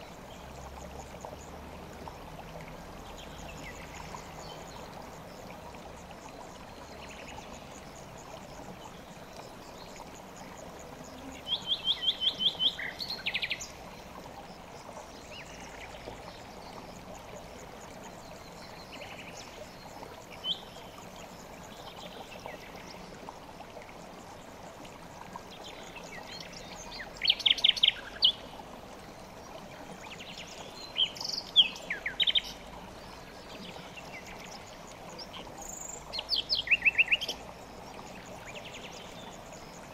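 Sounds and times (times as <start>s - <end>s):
river water flowing: 0.0s - 39.9s
songbird singing: 0.0s - 39.9s.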